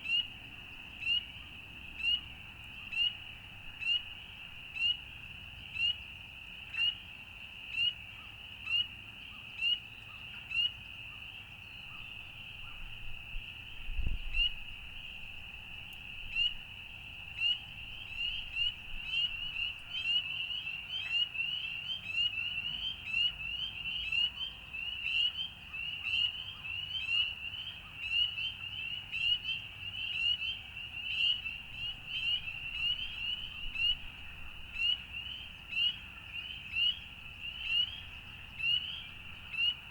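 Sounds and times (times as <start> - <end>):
frogs peeping in chorus: 0.0 - 39.9.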